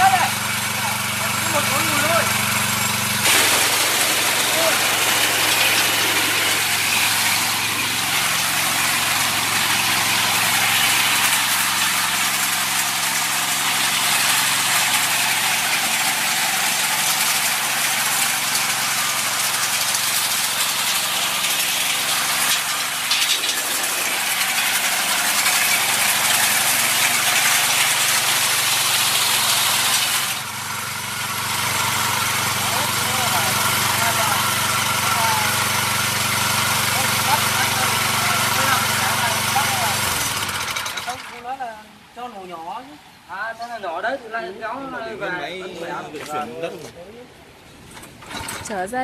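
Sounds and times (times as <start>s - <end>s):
small petrol engine running: 0.0s - 41.6s.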